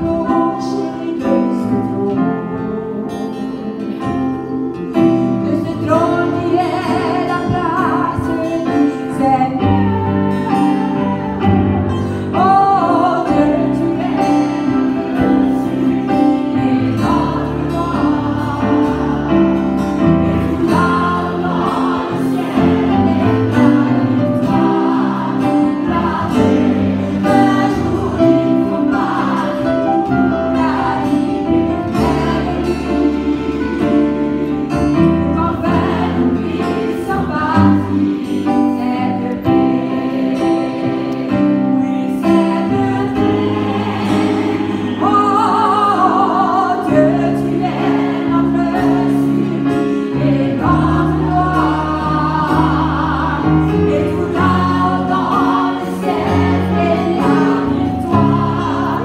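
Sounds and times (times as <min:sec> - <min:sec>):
choir singing: 0:00.0 - 0:04.3, 0:05.4 - 0:59.0
woman singing worship song: 0:00.0 - 0:04.3, 0:05.4 - 0:41.2, 0:41.8 - 0:59.0
guitar: 0:00.0 - 0:59.0.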